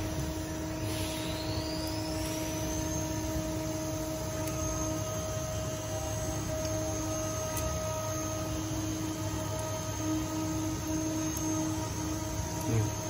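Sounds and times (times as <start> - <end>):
machine high whine: 0.0 - 13.0
printing machine electrical hum: 0.0 - 13.0.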